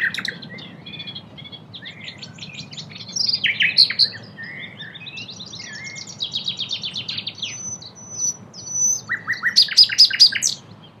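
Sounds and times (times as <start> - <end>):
nightingale singing: 0.0 - 11.0.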